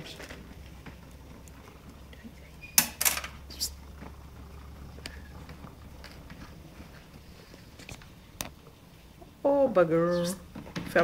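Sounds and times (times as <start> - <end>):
treadmill humming: 0.0 - 11.0.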